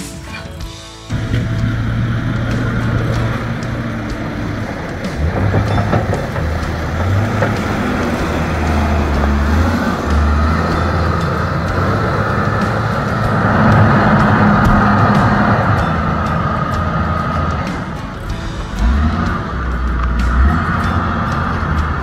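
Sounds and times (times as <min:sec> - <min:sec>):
diesel engine revving: 0:01.1 - 0:22.0.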